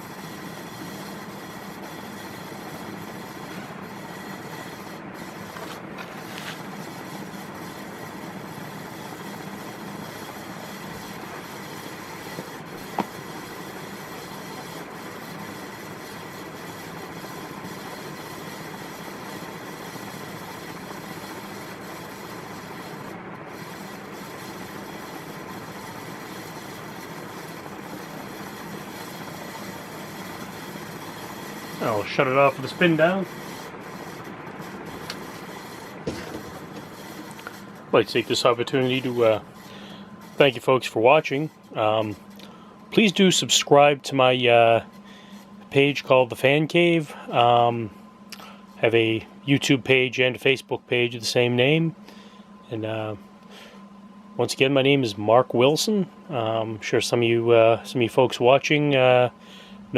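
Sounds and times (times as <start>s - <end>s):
ceiling fan whirring: 0.0s - 59.9s.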